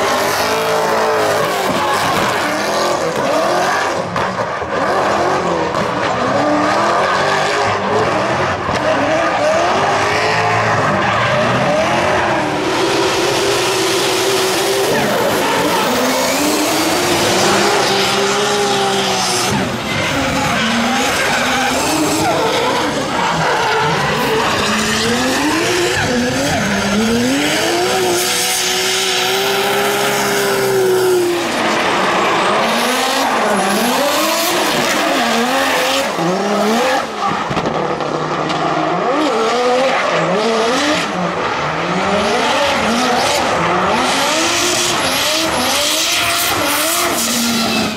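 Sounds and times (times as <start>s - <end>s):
car engines revving hard: 0.0s - 47.9s.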